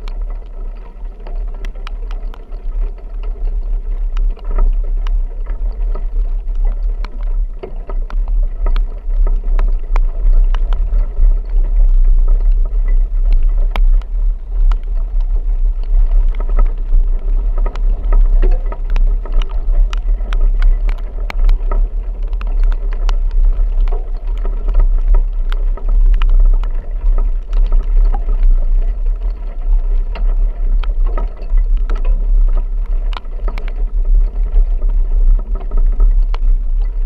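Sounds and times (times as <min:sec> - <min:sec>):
heavy rain pelting a vehicle: 0:00.0 - 0:37.0
vehicle rumbling on the move: 0:00.0 - 0:37.0.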